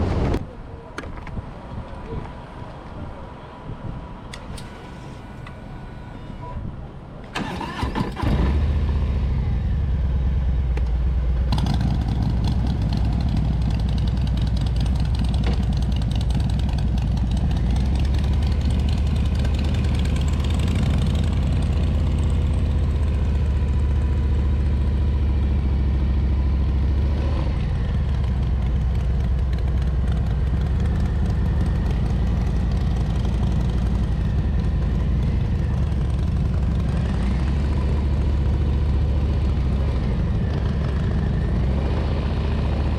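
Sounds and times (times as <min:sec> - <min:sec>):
motorcycle engine rumbling: 0:04.3 - 0:42.9.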